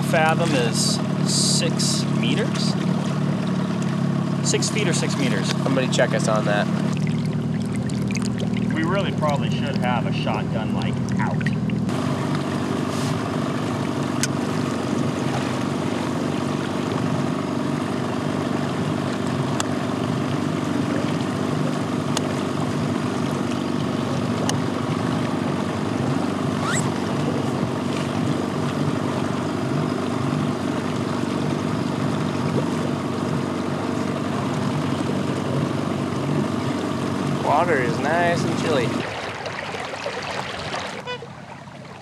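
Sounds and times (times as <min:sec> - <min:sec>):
small outboard motor running: 0:00.0 - 0:42.0.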